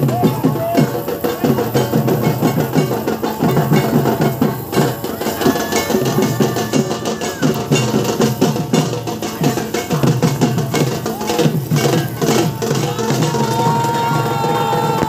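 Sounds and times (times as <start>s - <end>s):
music with fast dense drumming: 0.0s - 15.0s.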